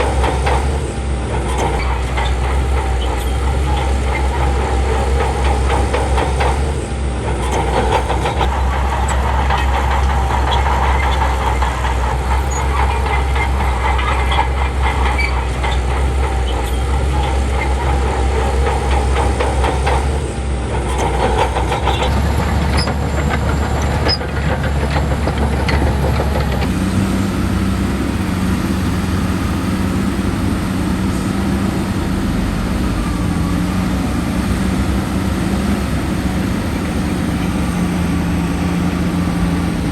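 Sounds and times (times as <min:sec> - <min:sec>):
diesel machinery engine: 0:00.0 - 0:39.9
machinery rattling and clanking: 0:00.0 - 0:39.9.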